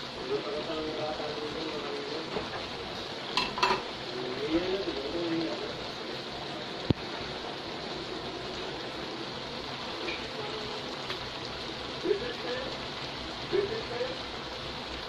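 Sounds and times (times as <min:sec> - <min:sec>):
pan bubbling and simmering: 0:00.0 - 0:15.0.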